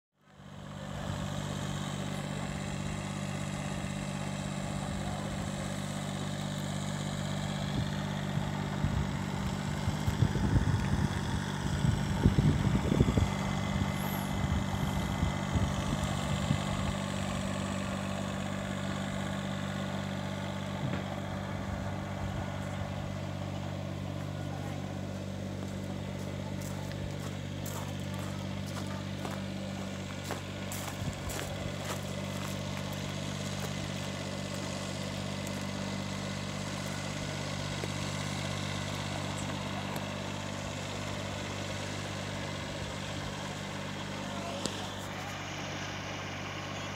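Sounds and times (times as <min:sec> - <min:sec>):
aircraft engines running: 0:00.3 - 0:46.9.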